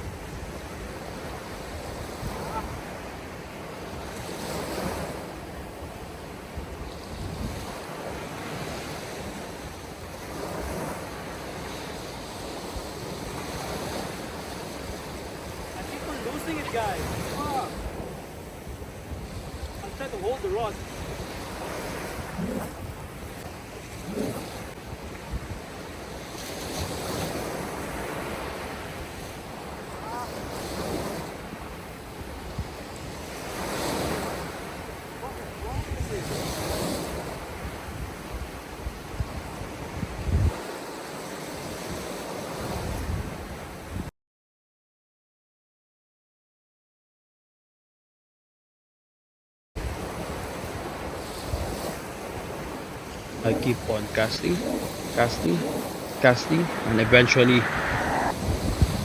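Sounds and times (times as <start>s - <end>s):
wind buffeting microphone: 0.0s - 40.7s, 41.5s - 44.1s, 49.8s - 59.0s
surf breaking on beach: 0.0s - 44.0s, 49.8s - 59.0s.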